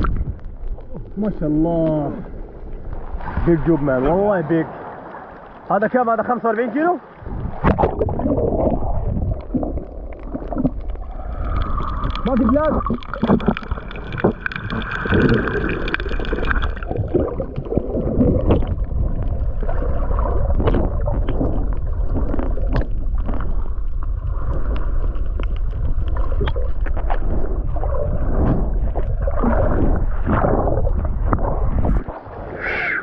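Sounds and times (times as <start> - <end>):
muffled underwater water rushing: 0.0 - 33.0.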